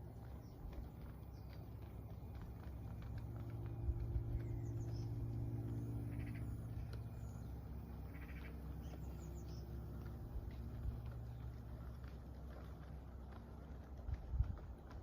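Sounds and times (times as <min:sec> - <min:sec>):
small wheels clicking over rail joints: 0:00.0 - 0:15.0.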